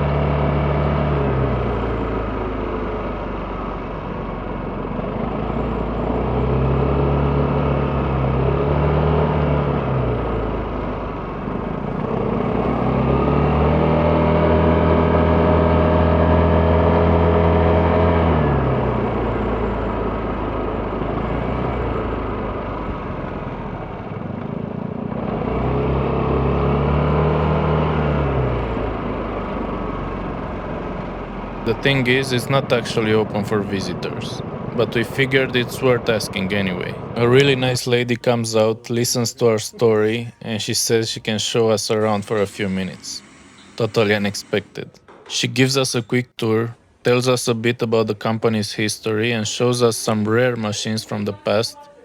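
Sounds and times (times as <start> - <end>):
scooter engine revving: 0.0 - 45.2.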